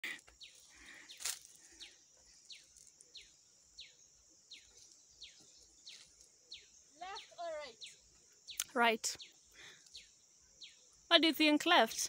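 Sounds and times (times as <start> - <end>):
insect hiss: 0.0 - 12.0.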